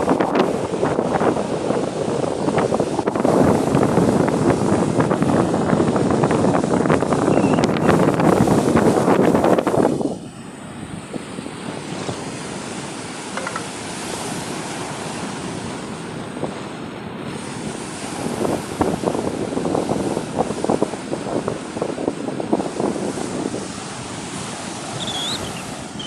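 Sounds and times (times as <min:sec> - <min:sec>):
sea waves on the shore: 0:00.0 - 0:26.0
small crackles of surf: 0:00.0 - 0:26.0.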